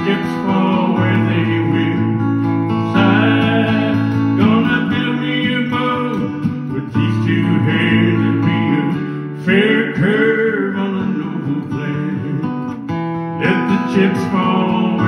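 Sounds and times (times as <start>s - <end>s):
acoustic guitar strumming: 0.0s - 15.0s
bending guitar melody: 0.0s - 15.0s.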